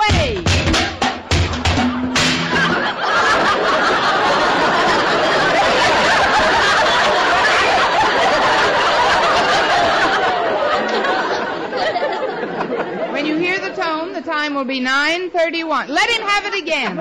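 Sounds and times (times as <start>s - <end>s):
studio audience laughing: 1.2s - 14.2s, 16.1s - 17.0s.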